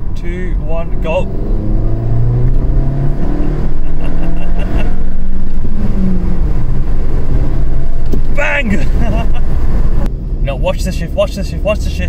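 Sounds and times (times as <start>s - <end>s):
car engine accelerating hard: 0.0s - 10.1s.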